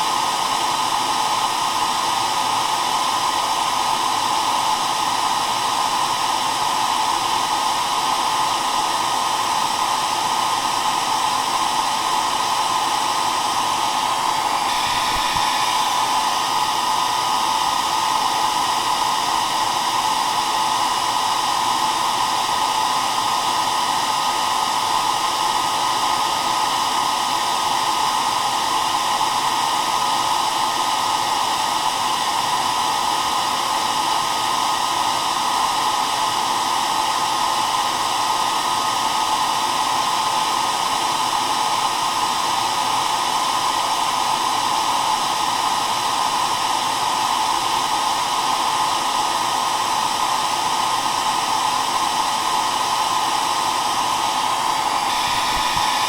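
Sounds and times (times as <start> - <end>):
hair dryer blowing air: 0.0 - 56.0.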